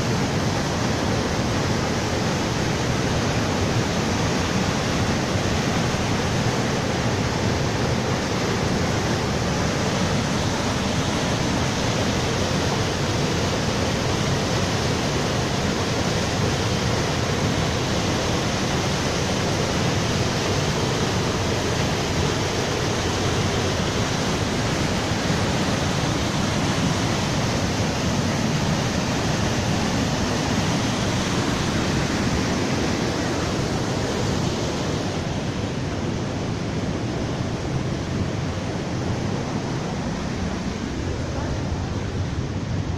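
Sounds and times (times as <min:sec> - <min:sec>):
whitewater rushing over rocks: 0:00.0 - 0:42.9.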